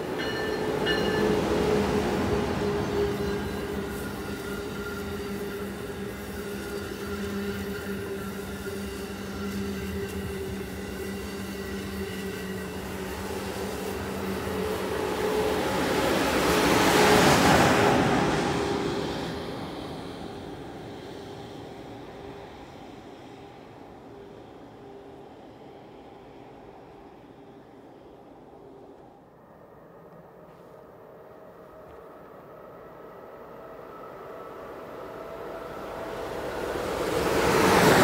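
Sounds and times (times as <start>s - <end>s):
train passing at speed: 0.0s - 38.0s.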